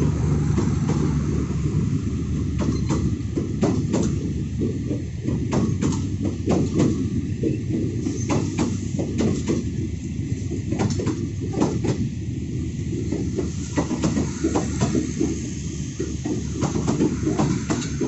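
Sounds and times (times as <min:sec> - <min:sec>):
train coaches rumbling past: 0:00.0 - 0:18.0
wheels clacking on rails: 0:00.0 - 0:18.0.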